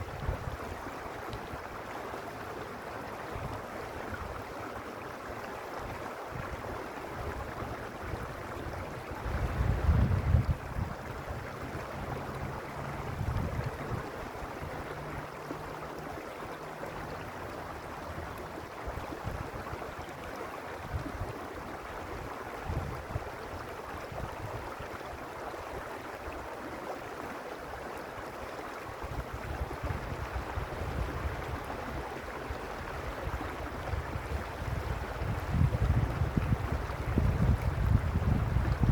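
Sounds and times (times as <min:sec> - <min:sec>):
wind rumble on microphone: 0:00.0 - 0:01.8, 0:02.6 - 0:04.5, 0:05.8 - 0:26.5, 0:28.4 - 0:38.9
creek water rushing: 0:00.0 - 0:38.9.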